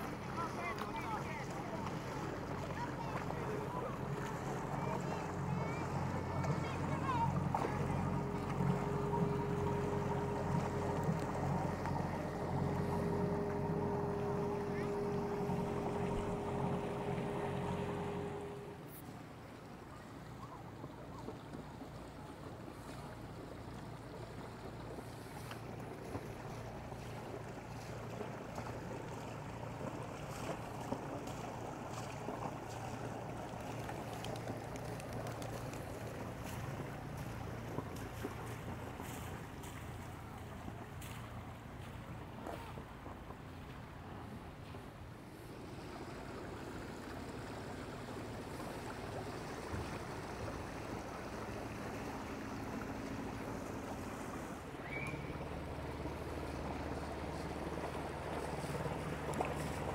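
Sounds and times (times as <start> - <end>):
faint water: 0.0 - 59.9
motor boat engine hum: 0.0 - 59.9.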